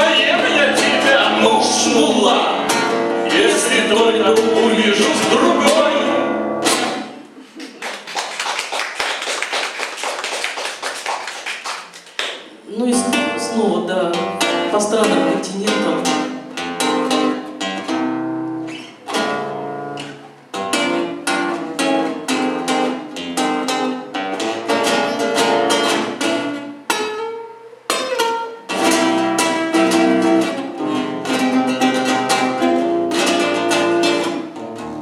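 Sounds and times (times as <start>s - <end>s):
acoustic guitar chords: 0.0s - 7.6s, 12.5s - 35.0s.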